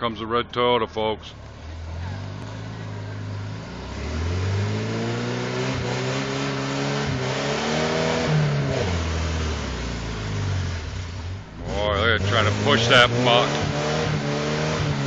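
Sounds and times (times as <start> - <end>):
engine revving: 1.3 - 15.0
tires spinning in mud: 1.4 - 15.0.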